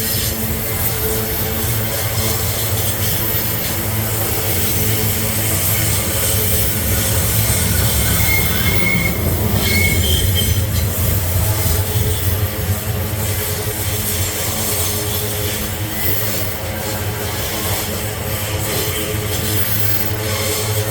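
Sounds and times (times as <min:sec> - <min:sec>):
freight train rumbling: 0:00.0 - 0:20.9
wheel squeals: 0:00.0 - 0:20.9.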